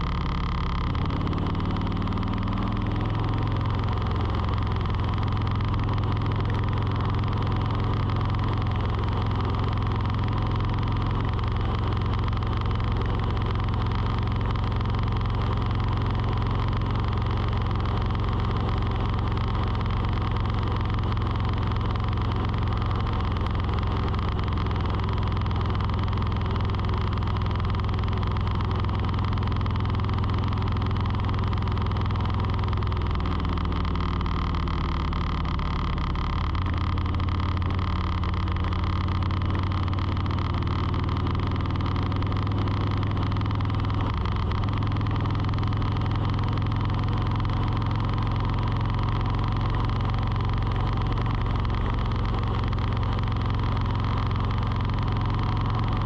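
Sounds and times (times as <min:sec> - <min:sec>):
steady motor hum: 0:00.0 - 0:56.0.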